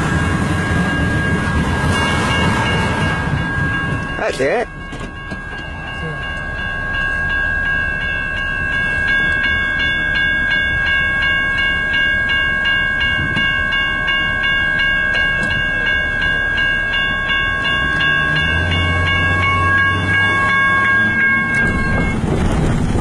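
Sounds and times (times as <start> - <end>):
railroad crossing bell ringing: 0.0 - 23.0.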